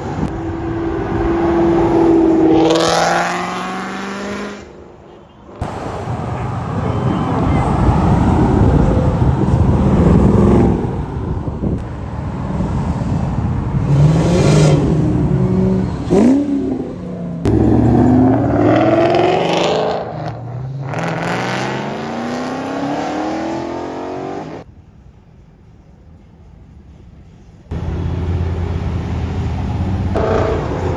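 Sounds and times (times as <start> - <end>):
car engines revving: 0.0 - 4.9, 5.6 - 24.7, 27.7 - 30.9.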